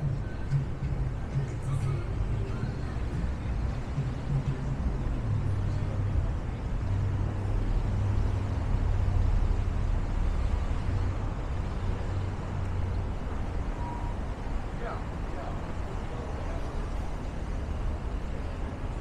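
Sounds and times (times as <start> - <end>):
city street noise: 0.0 - 19.0.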